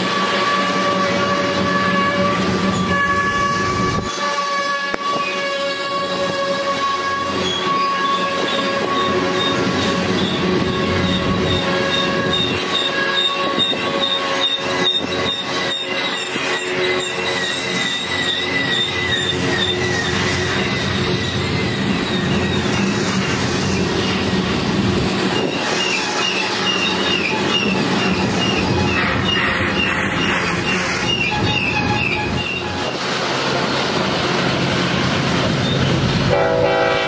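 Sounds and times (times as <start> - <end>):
train wheels squealing: 0.0 - 33.8, 35.0 - 36.2
rumble of train cars: 0.0 - 37.0
train wheels clacking: 0.0 - 37.0.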